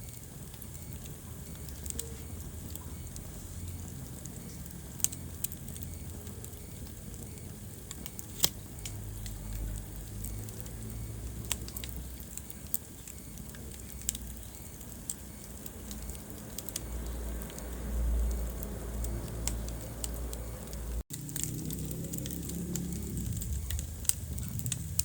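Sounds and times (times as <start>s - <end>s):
low rumble of flame: 0.0s - 25.0s
wood fire crackling and popping: 0.0s - 25.0s.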